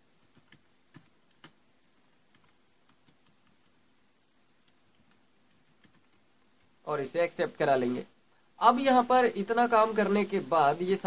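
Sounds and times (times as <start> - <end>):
low room hiss: 0.0 - 11.0.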